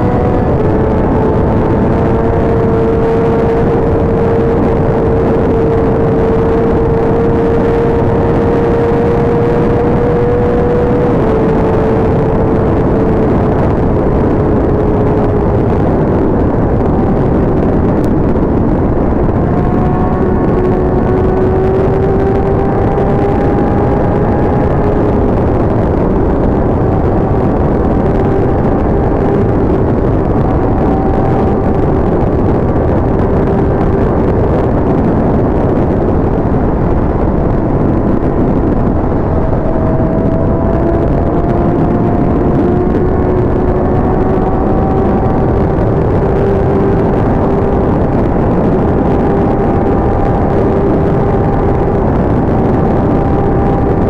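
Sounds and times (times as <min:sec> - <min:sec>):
motorcycle engine cruising: 0:00.0 - 0:54.0
wind rush: 0:00.0 - 0:54.0.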